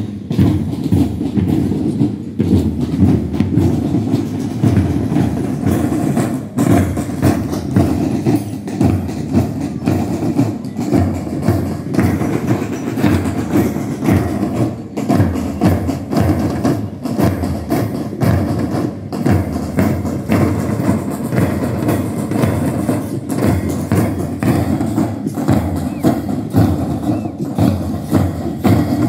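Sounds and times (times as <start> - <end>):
marching drum band: 0.0 - 29.0.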